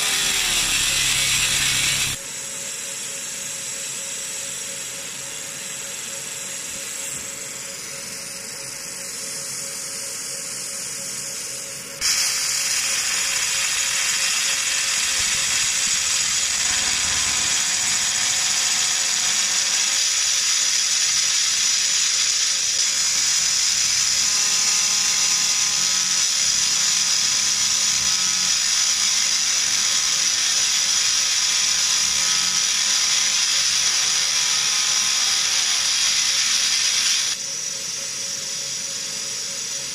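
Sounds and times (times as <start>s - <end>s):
laser engraving hiss: 0.0s - 39.9s.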